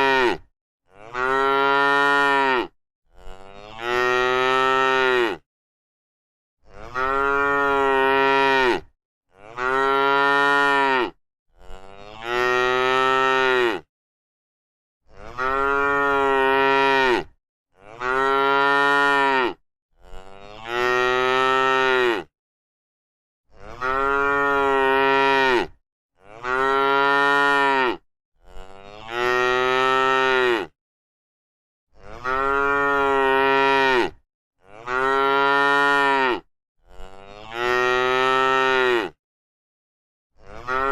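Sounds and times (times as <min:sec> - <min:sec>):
cow mooing: 0:00.0 - 0:05.4, 0:06.7 - 0:13.9, 0:15.1 - 0:22.3, 0:23.6 - 0:30.8, 0:32.0 - 0:39.2, 0:40.4 - 0:40.9.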